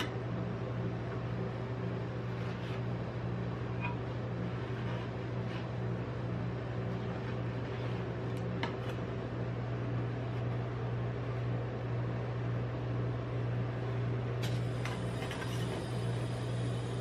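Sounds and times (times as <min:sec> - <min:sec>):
refrigeration unit humming: 0:00.0 - 0:17.0.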